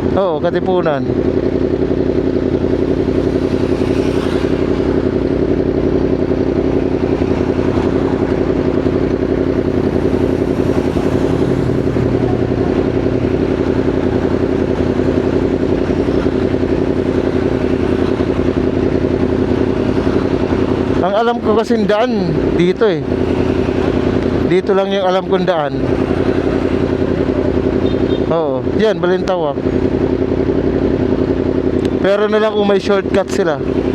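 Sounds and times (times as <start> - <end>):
motorcycle engine running: 0.0 - 33.9
road and wind noise: 0.0 - 33.9.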